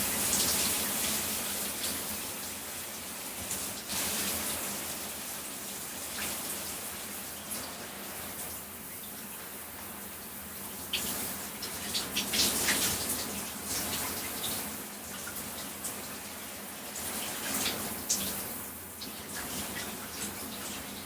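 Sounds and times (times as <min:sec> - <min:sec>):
shower spray on body: 0:00.0 - 0:21.0.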